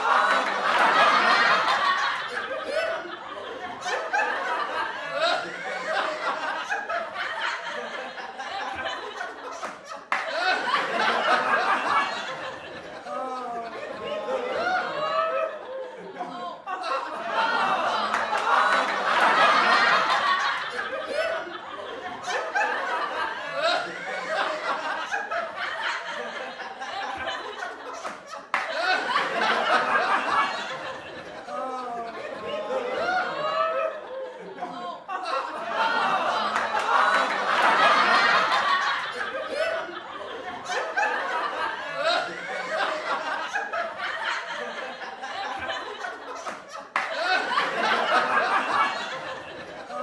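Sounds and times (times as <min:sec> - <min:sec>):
group of people laughing: 0:00.0 - 0:50.0.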